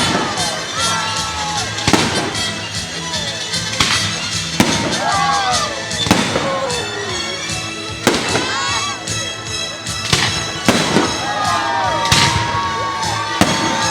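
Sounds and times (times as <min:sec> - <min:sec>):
fireworks bursting: 0:00.0 - 0:13.9
music with singing over loudspeakers: 0:00.0 - 0:13.9.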